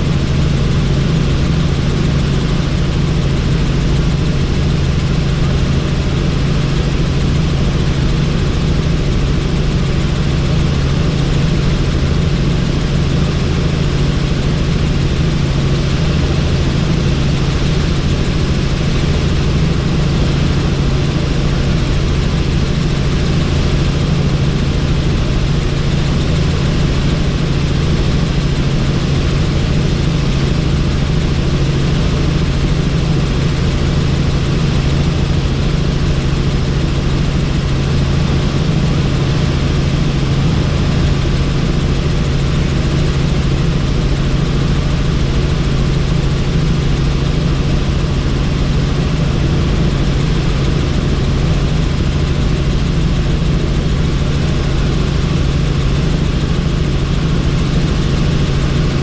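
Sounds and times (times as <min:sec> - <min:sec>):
helicopter drone: 0:00.0 - 0:59.0.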